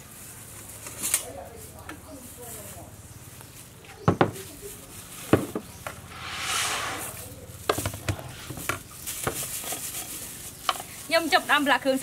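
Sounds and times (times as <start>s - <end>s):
rustle: 0.0s - 12.0s.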